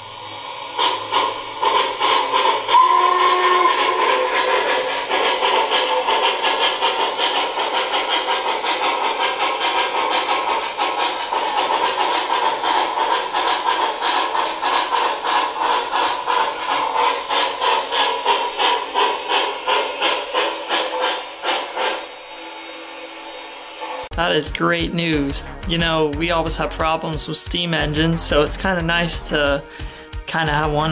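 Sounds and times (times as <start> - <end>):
model steam locomotive chuffing: 0.0 - 30.9.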